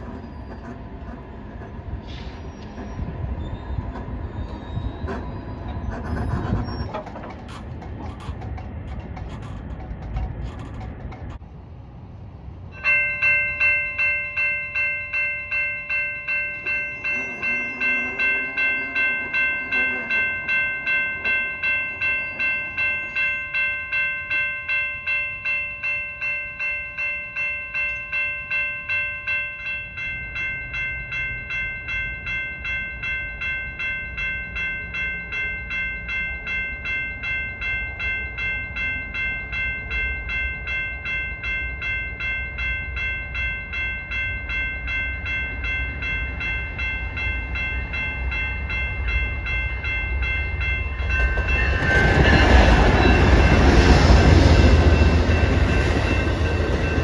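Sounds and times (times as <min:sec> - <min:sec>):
railroad crossing bell ringing: 0:00.0 - 0:11.4, 0:12.5 - 0:57.0
approaching train rumble: 0:00.0 - 0:24.9, 0:29.9 - 0:57.0.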